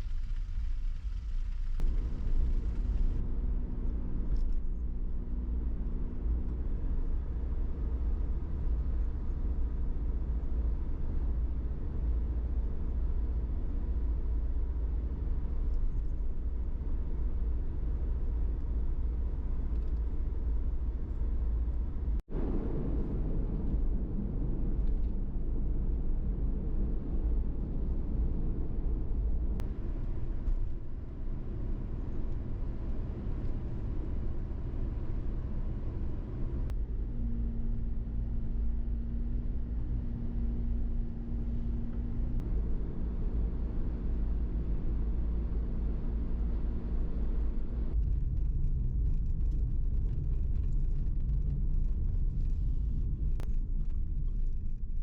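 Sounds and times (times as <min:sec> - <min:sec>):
low hum: 0:00.0 - 0:55.0
van road and engine rumble: 0:00.0 - 0:55.0.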